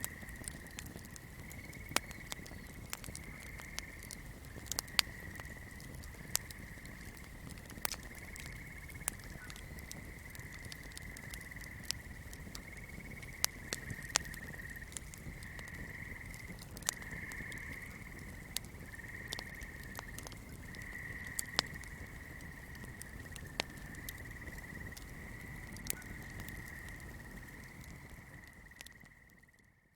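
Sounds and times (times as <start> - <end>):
fire crackling: 0.0 - 29.6.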